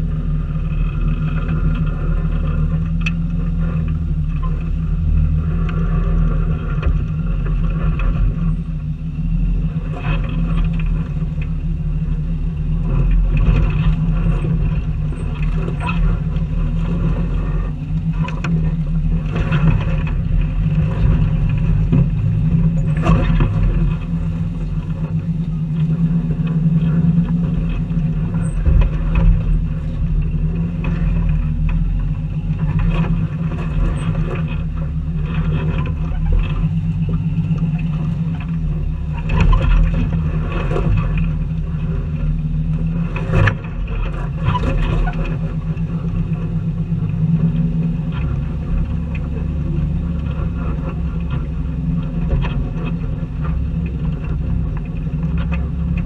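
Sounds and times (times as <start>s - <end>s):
vehicle engine running at low revs: 0.0s - 56.0s.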